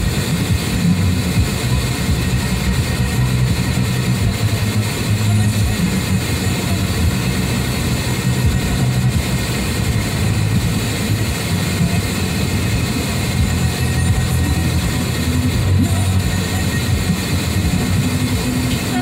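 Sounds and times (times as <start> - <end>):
car engine hum inside cabin: 0.0 - 19.0.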